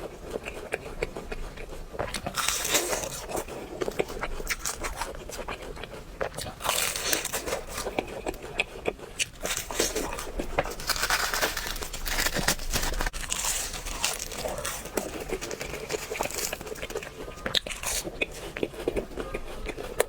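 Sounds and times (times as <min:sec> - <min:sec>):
crunching fried food: 0:00.0 - 0:20.0.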